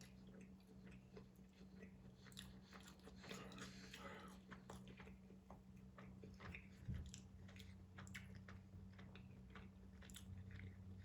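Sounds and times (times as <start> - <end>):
person chewing food: 0.3 - 10.9.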